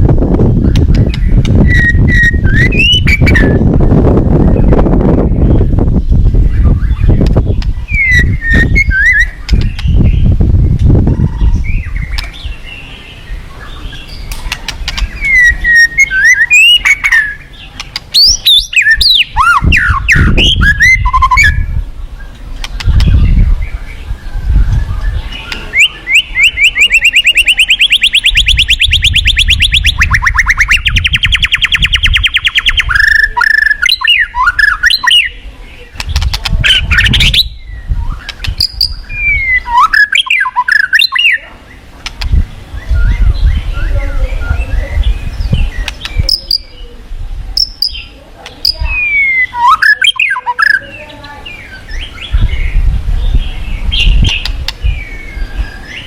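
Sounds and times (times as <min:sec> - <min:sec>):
bird singing trills and whistles: 0:00.4 - 0:47.0, 0:47.6 - 0:56.0.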